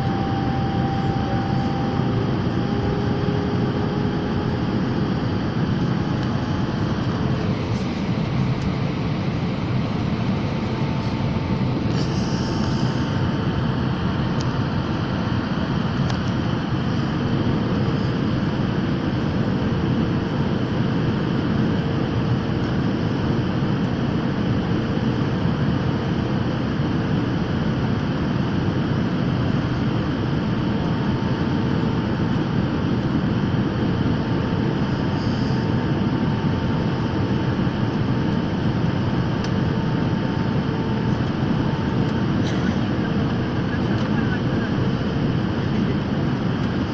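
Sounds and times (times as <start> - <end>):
airliner engines and rushing air: 0.0 - 46.9.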